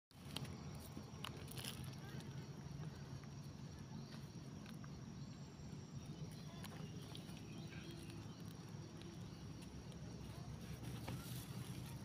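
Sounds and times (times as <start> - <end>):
low steady rumble: 0.2 - 12.0.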